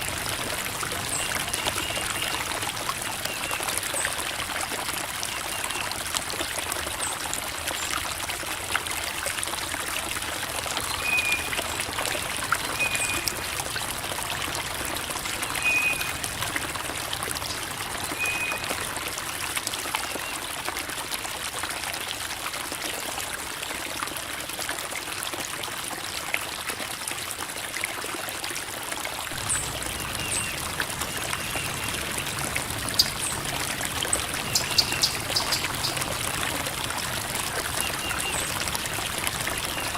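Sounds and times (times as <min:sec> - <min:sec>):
creek water babbling over rocks: 0:00.0 - 0:39.9.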